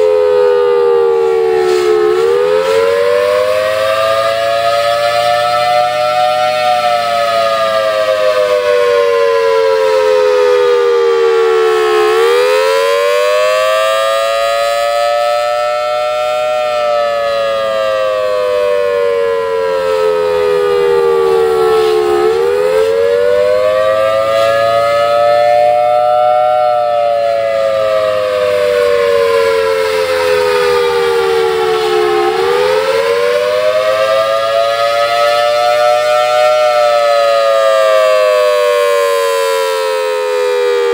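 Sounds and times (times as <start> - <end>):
warning siren wailing: 0.0 - 40.9.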